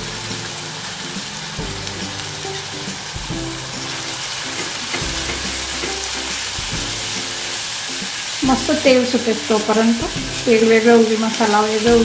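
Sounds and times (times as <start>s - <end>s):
spatula stirring in a pan: 0.0s - 12.0s
spice paste sizzling in hot oil: 0.0s - 12.0s.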